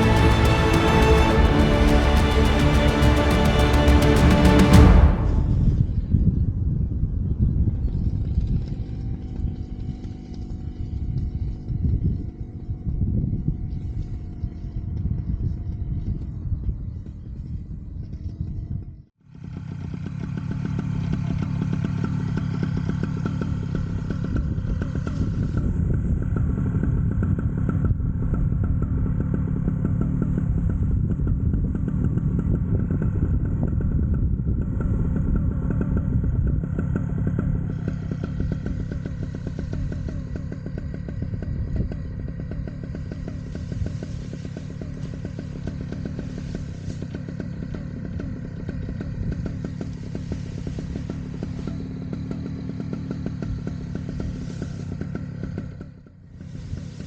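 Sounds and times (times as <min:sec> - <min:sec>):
paramotor engine running: 0:00.0 - 0:06.5, 0:07.8 - 0:17.6, 0:19.3 - 0:57.0.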